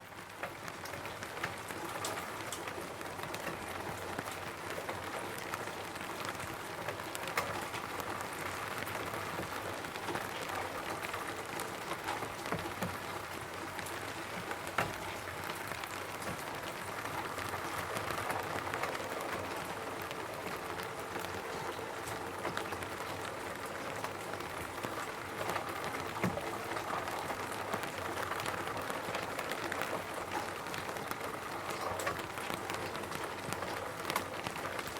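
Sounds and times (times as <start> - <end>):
rain on a roof: 0.0 - 34.9
raindrop taps: 0.3 - 34.9.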